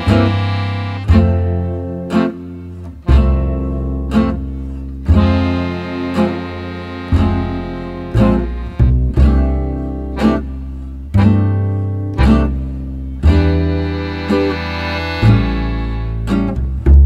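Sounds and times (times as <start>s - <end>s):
strummed acoustic guitar: 0.0s - 17.0s
sustained bass notes: 0.0s - 17.0s.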